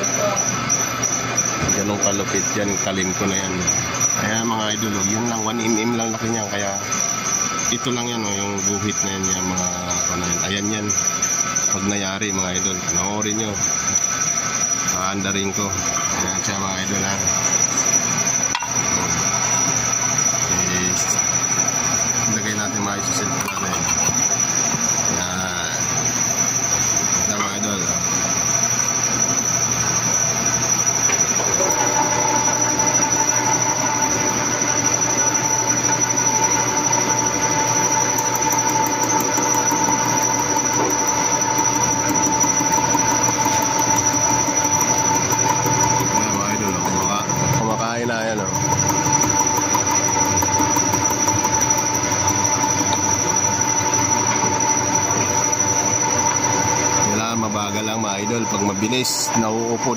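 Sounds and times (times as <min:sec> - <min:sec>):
high metallic squeal of cutter: 0:00.0 - 0:59.9
milling machine hum: 0:00.0 - 0:59.9.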